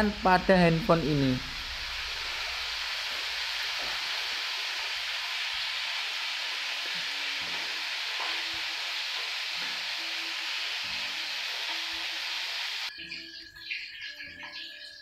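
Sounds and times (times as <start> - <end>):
recording hiss: 0.0 - 12.9.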